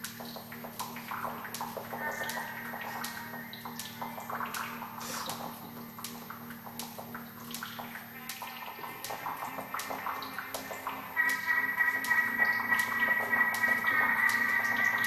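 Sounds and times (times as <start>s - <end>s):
irregular clicks and crackles: 0.0s - 15.0s
steady low hum: 0.0s - 15.0s.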